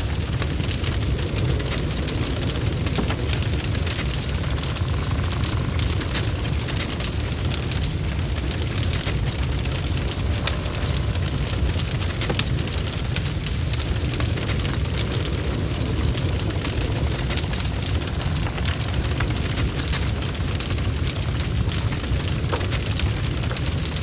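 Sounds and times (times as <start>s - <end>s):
wood bonfire burning: 0.0s - 24.0s.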